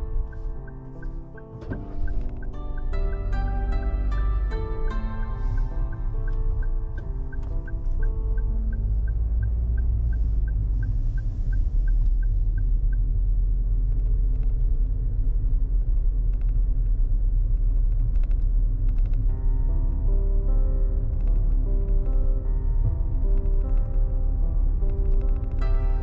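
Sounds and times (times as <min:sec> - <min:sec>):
car road rumble inside cabin: 0:00.0 - 0:26.0.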